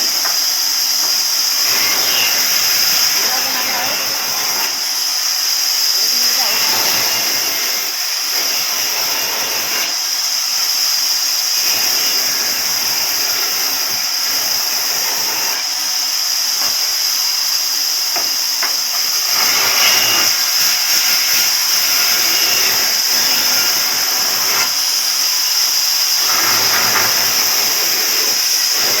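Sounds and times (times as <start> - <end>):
power saw cutting wood: 0.0 - 29.0.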